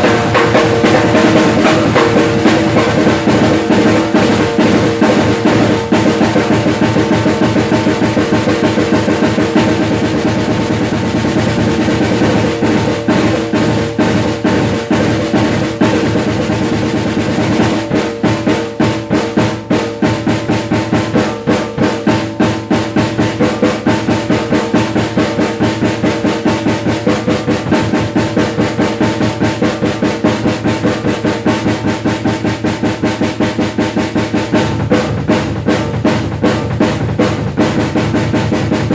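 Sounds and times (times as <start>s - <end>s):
drum kit played with sticks: 0.0s - 38.9s.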